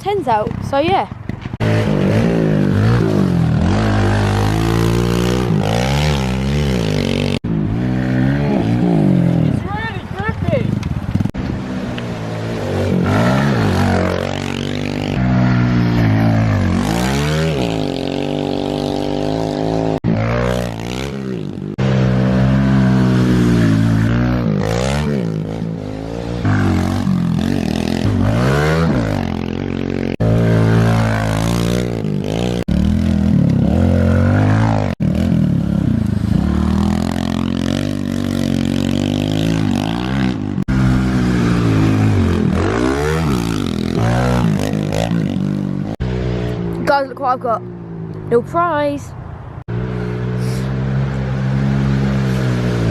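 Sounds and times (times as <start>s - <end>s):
minibike engine revving: 0.0s - 47.7s.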